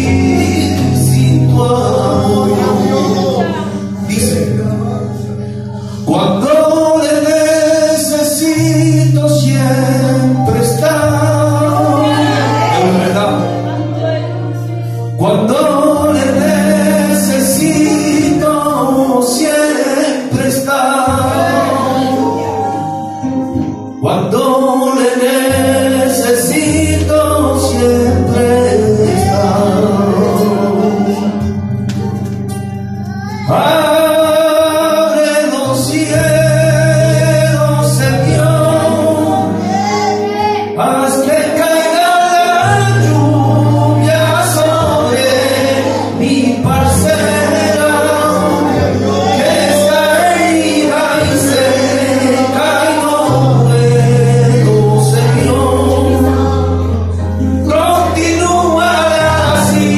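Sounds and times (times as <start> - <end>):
man singing worship song: 0.0 - 31.9, 32.6 - 59.9.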